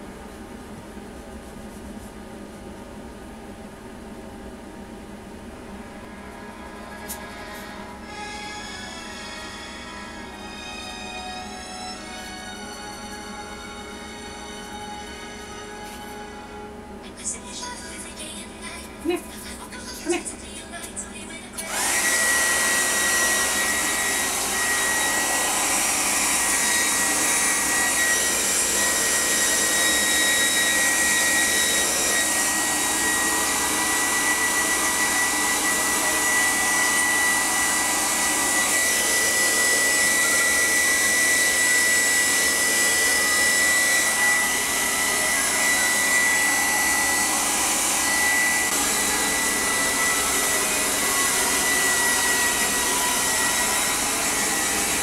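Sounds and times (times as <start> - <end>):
hair dryer blowing with whine: 0.0 - 17.8, 20.1 - 55.0.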